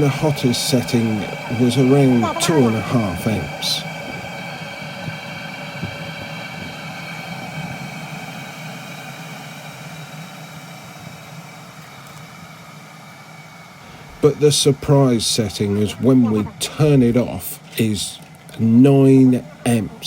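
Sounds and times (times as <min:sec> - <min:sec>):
air heater fan humming: 0:00.0 - 0:20.0.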